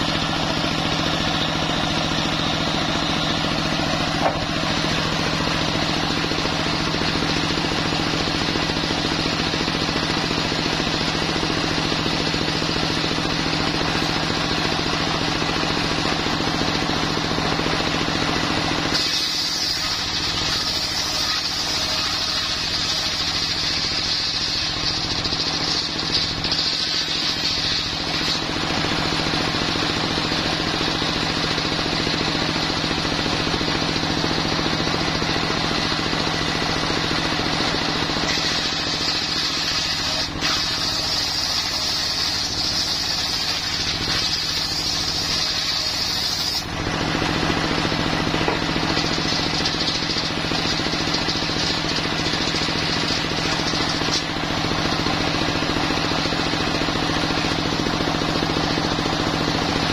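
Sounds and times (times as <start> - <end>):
saw blade cutting wood: 0.0 - 59.7
engine running: 0.0 - 59.9.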